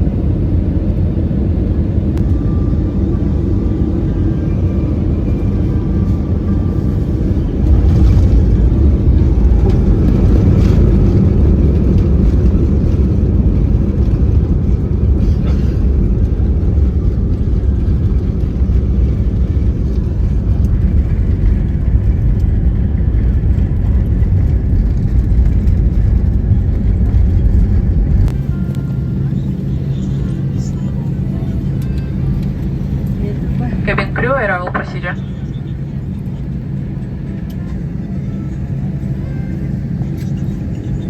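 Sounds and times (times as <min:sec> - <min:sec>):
jet engine cabin rumble: 0:00.0 - 0:41.0.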